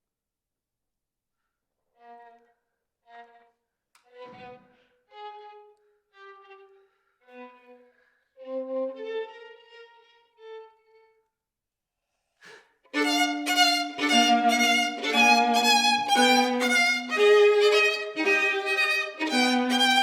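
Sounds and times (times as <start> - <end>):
slow violin melody: 2.0 - 11.1, 12.9 - 20.0.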